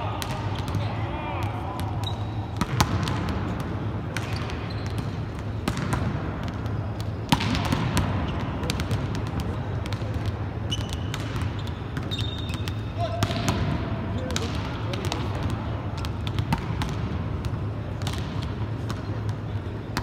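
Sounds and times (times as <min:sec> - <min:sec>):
volleyball smacks in hall: 0:00.0 - 0:20.0.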